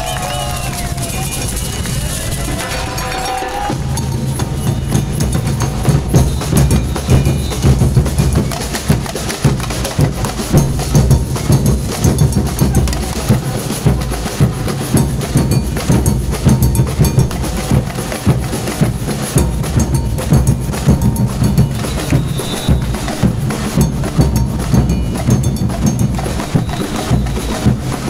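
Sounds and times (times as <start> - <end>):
group of drums beating: 0.0 - 28.0.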